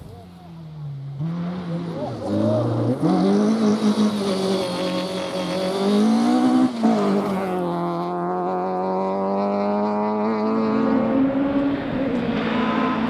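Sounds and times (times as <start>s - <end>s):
rally car engine pulling hard: 0.0s - 13.0s.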